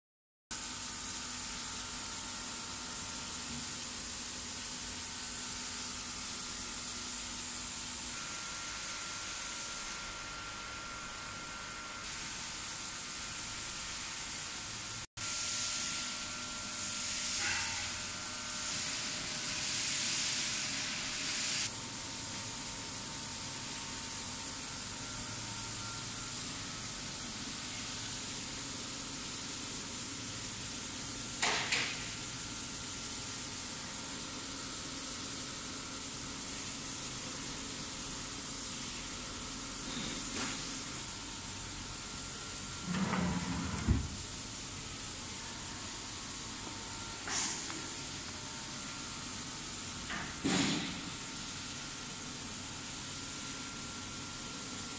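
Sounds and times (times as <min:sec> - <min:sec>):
cooling fans hissing: 0:00.6 - 0:54.9.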